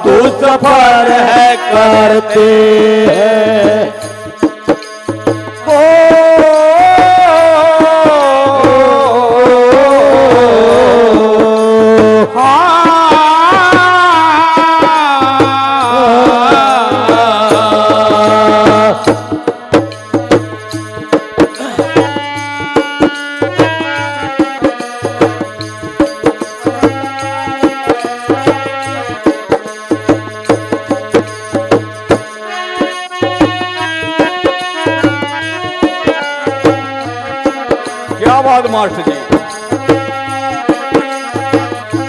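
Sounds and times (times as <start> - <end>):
hand drum beat: 0.0 - 42.0.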